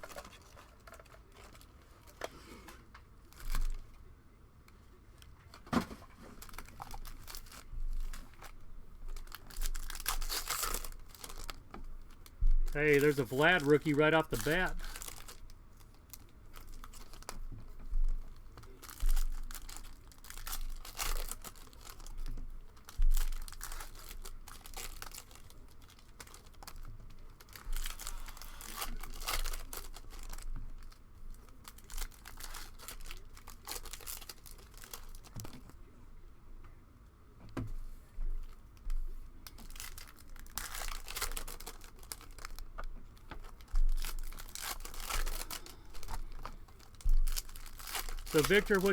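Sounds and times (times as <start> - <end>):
wrapper crinkling and tearing: 0.0 - 4.0, 5.2 - 17.7, 18.3 - 35.8, 39.5 - 48.9.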